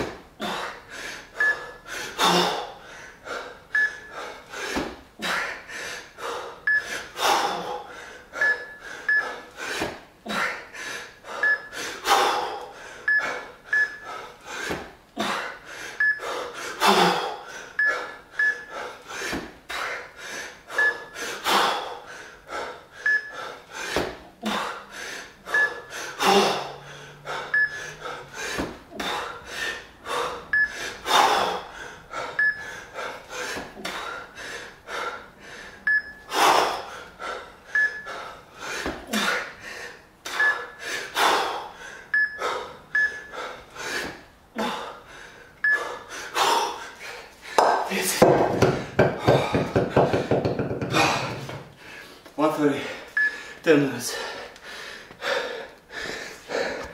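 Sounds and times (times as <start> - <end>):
hard rhythmic breathing: 0.0 - 56.9.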